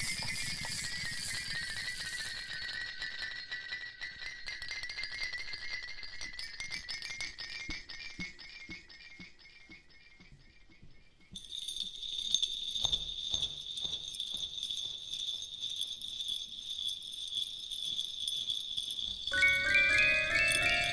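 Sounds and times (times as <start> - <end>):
small bells jingling: 0.0 - 7.5, 11.4 - 20.9.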